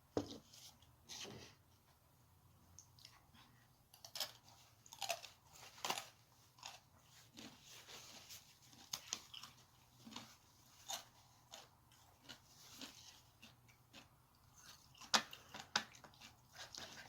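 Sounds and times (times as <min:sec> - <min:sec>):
person chewing crunchy food: 0:02.9 - 0:17.0.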